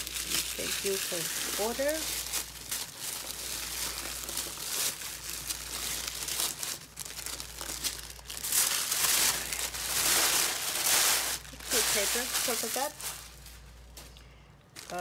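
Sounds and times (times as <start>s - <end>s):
tissue paper crinkling: 0.0s - 14.0s, 14.8s - 15.0s.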